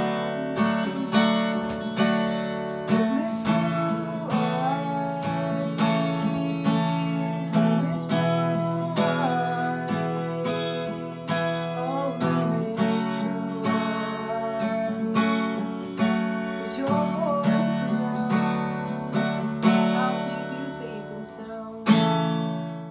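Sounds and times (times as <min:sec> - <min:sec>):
acoustic guitar strumming: 0:00.0 - 0:22.9
person singing: 0:00.0 - 0:22.9.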